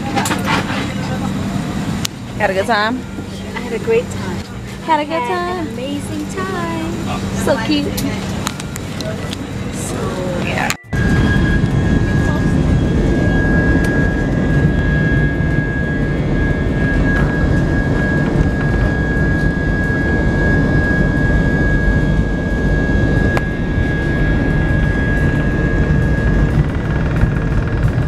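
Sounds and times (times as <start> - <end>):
high jet engine whine: 0.0 - 28.0
jet engines roaring: 0.0 - 28.0.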